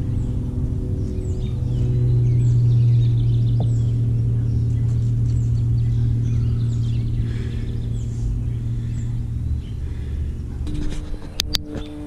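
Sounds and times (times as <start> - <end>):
propeller plane engine drone: 0.0 - 12.0
small birds chirping: 0.0 - 12.0.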